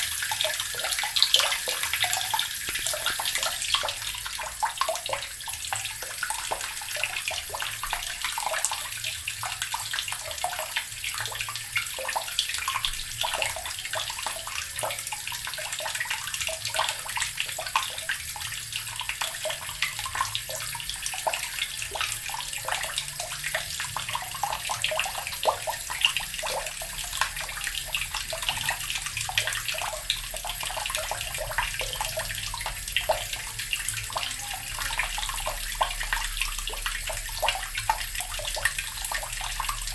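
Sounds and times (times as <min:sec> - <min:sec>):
tap water splashing into basin: 0:00.0 - 0:39.9.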